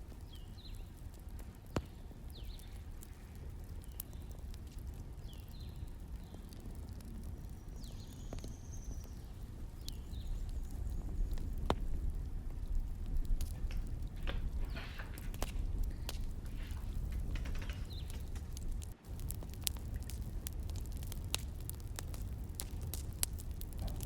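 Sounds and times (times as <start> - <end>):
burning wood squeaks and whistle: 0.0 - 24.0
fire crackles and pops: 0.0 - 24.0
wood fire rumbling: 0.0 - 24.0.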